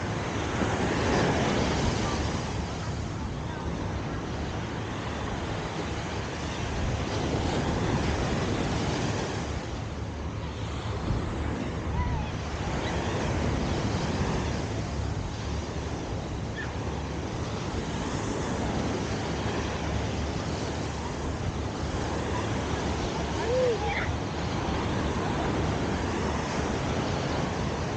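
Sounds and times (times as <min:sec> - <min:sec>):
ocean waves breaking: 0:00.0 - 0:27.9.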